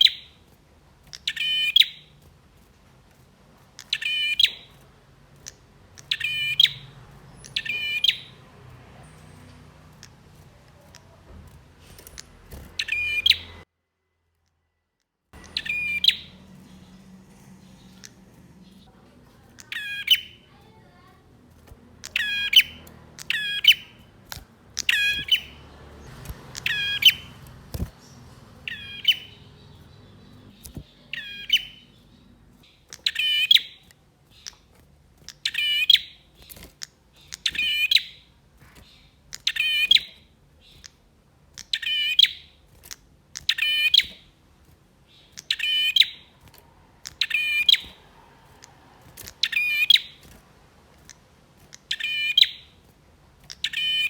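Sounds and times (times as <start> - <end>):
bird calling: 1.1 - 2.2, 3.7 - 13.6, 15.4 - 33.8, 35.3 - 40.9, 41.6 - 44.3, 45.1 - 52.8, 53.5 - 54.0.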